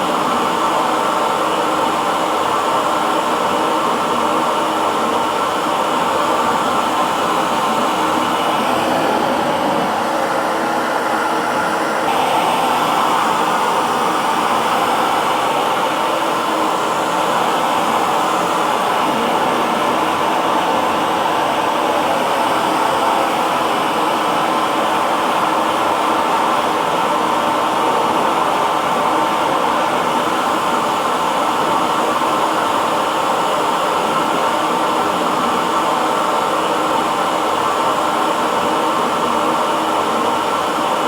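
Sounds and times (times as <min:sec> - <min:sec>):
hair dryer running: 0:00.0 - 0:41.0.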